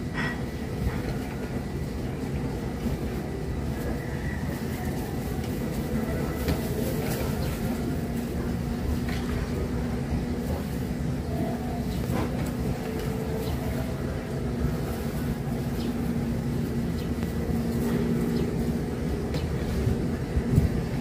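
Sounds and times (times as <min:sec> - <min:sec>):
low mechanical rumble: 0:00.0 - 0:21.0.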